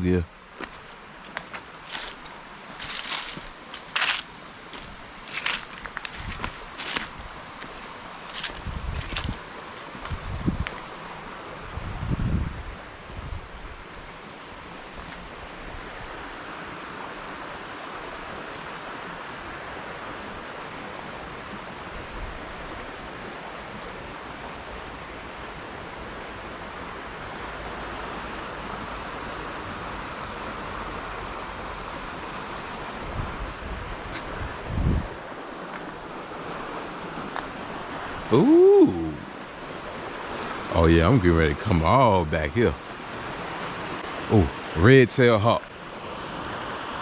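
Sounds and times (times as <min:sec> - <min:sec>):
rushing outdoor noise: 0:00.0 - 0:47.0.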